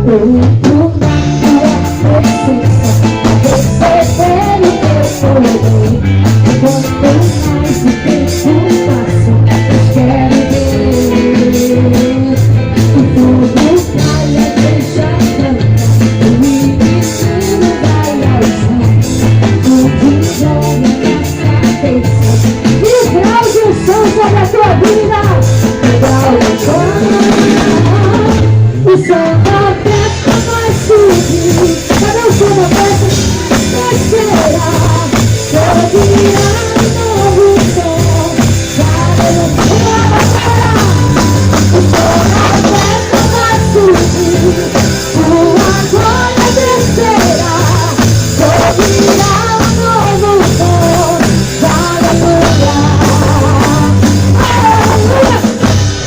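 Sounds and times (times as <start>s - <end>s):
drum kit beat: 0.0s - 56.0s
live worship band playing: 0.0s - 56.0s.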